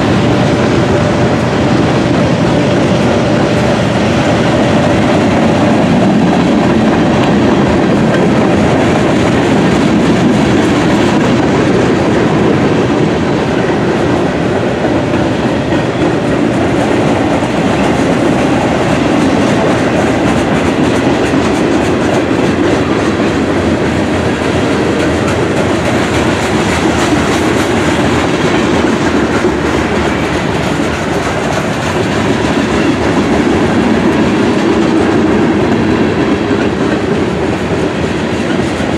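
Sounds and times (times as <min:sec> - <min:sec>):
clickety-clack of wheels: 0:00.0 - 0:38.9
freight train rolling past: 0:00.0 - 0:38.9.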